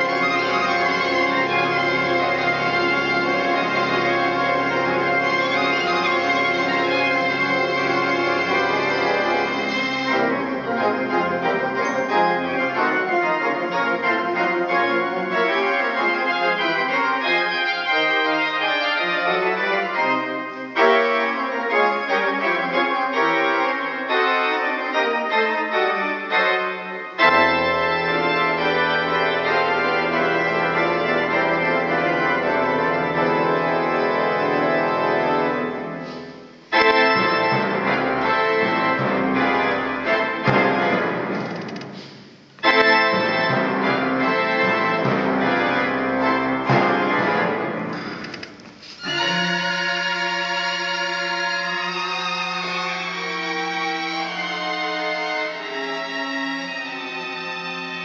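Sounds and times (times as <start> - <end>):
deep organ pedal notes: 0.0 - 58.0
pipe organ chords: 0.0 - 58.0.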